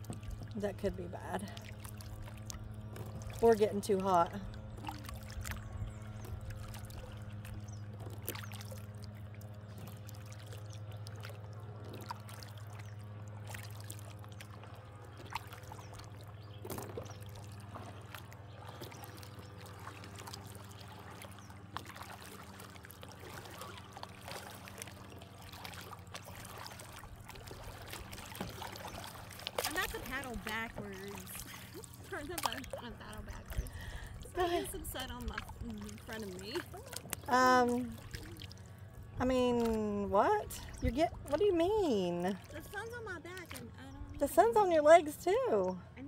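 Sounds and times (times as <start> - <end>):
water dripping off paddles: 0.0 - 38.8, 39.5 - 44.6
small splashes: 0.0 - 45.5
steady low hum: 0.0 - 46.0.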